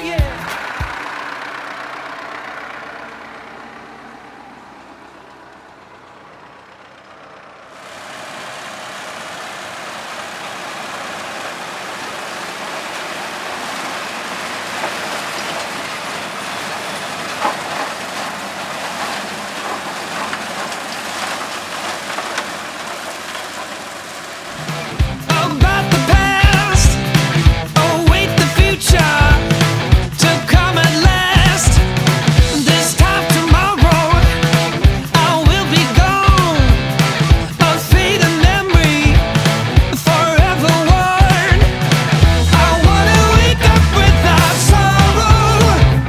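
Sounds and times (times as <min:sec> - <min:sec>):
forage harvester machinery rushing: 0:00.0 - 0:46.0
quiet engine: 0:00.0 - 0:46.0.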